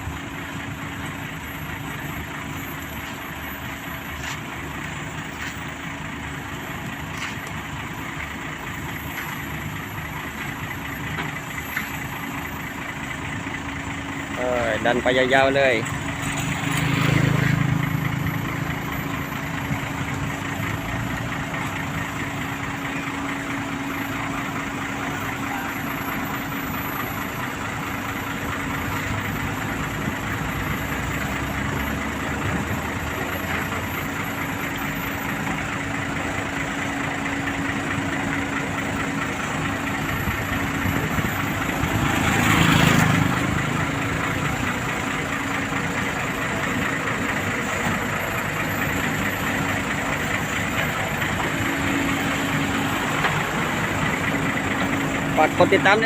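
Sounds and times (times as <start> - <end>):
diesel machinery engines humming: 0.0 - 56.0.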